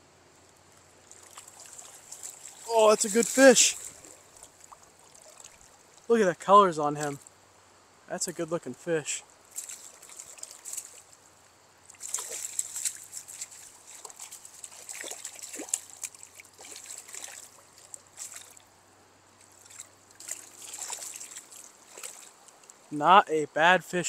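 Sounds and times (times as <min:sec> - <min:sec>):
water splashing and trickling: 0:00.0 - 0:07.6, 0:08.2 - 0:23.2.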